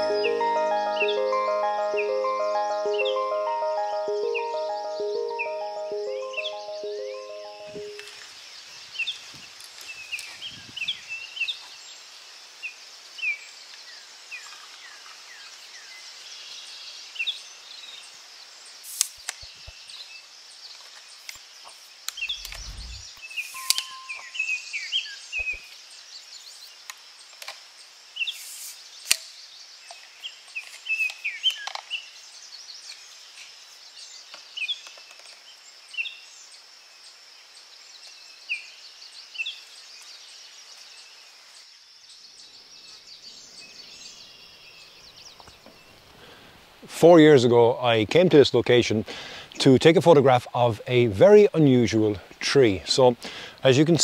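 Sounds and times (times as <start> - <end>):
forest ambience hiss: 8.4 - 23.5, 25.2 - 54.0.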